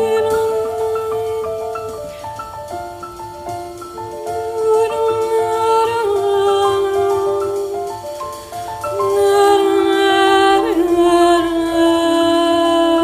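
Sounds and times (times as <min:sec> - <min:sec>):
jazz band playing held notes: 0:00.0 - 0:13.0.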